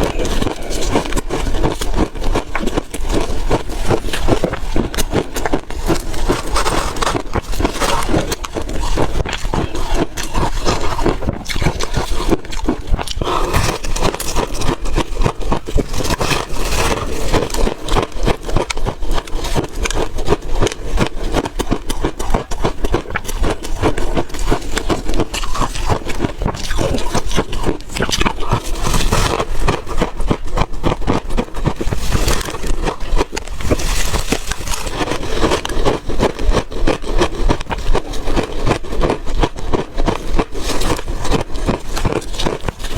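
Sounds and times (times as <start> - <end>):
crunching and chewing ice: 0.0 - 42.9.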